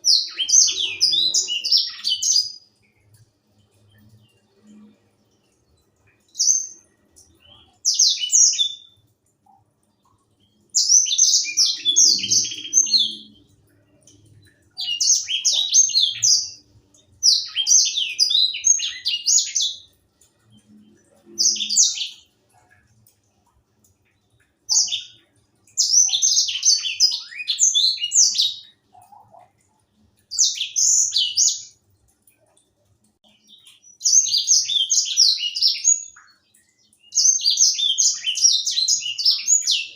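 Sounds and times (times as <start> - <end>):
canary singing fast high phrases: 0.0 - 4.8, 5.6 - 23.0, 24.4 - 29.6, 30.2 - 31.8, 33.3 - 39.9.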